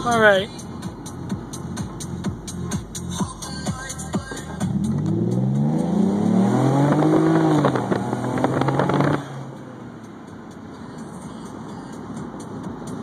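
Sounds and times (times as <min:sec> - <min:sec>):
car engine accelerating: 0:00.0 - 0:13.0
quiet road noise: 0:00.0 - 0:13.0.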